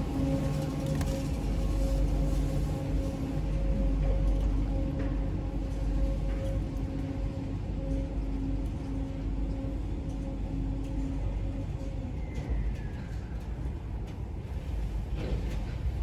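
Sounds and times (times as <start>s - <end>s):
elevator drive humming: 0.0s - 16.0s.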